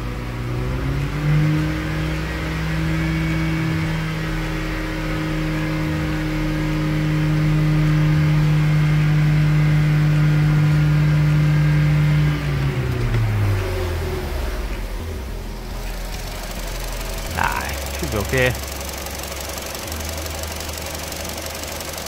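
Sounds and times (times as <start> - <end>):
car engine at fast idle: 0.0 - 22.0.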